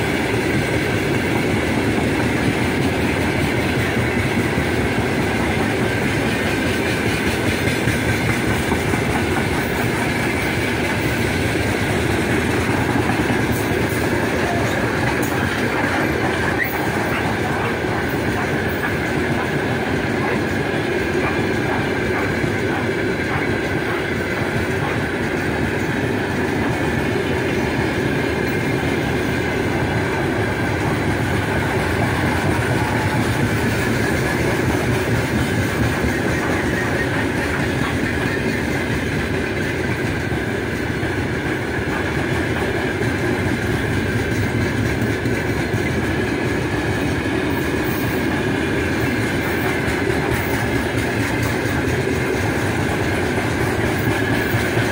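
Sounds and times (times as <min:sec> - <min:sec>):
freight train wheels clattering: 0:00.0 - 0:54.9.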